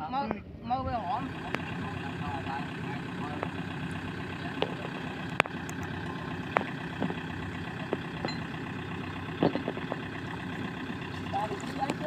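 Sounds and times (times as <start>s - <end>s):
tractor engine idling: 0.9s - 12.0s.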